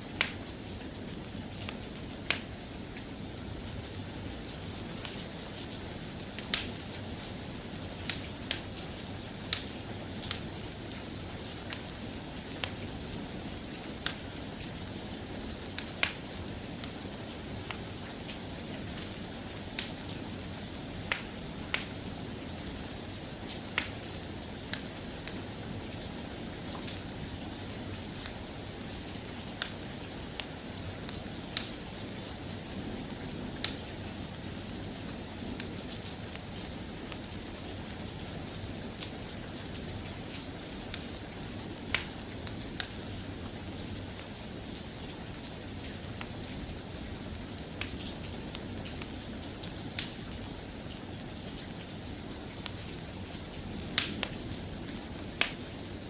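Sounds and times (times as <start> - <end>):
soft rain hiss: 0.0 - 56.0.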